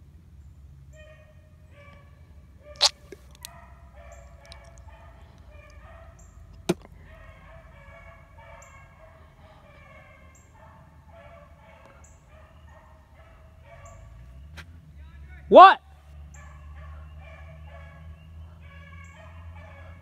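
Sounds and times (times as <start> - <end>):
distant dogs baying: 0.9 - 14.8, 16.0 - 20.0.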